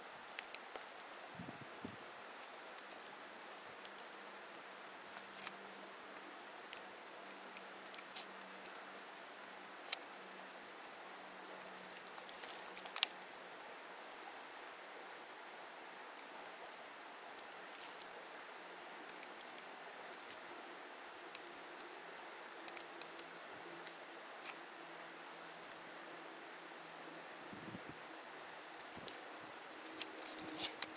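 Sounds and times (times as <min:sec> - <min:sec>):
light ticks and crackles: 0:00.0 - 0:01.3, 0:02.1 - 0:15.2, 0:15.8 - 0:30.9
outdoor background hiss: 0:00.0 - 0:30.9.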